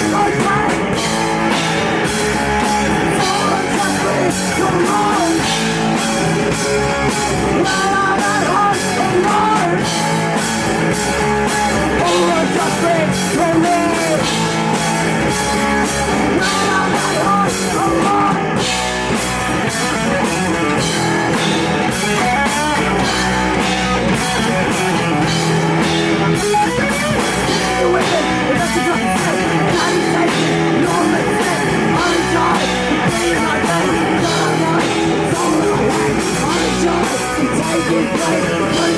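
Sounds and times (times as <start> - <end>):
person singing: 0.0 - 18.8, 19.6 - 38.9
distorted electric guitar: 0.0 - 38.9.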